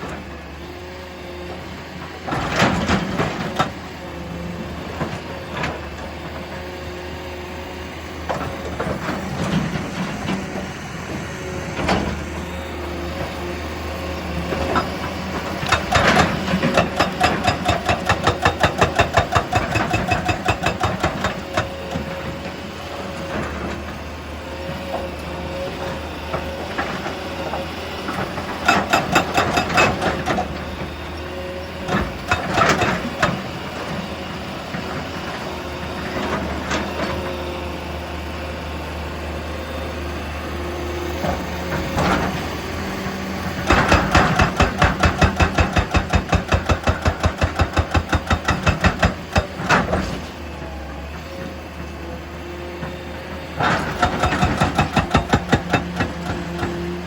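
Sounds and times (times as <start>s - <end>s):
heavy machinery engine drone: 0.0s - 57.0s.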